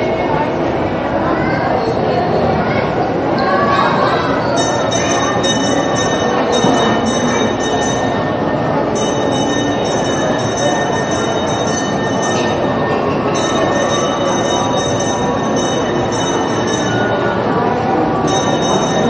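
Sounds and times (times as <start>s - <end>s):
ride train running: 2.1s - 19.0s.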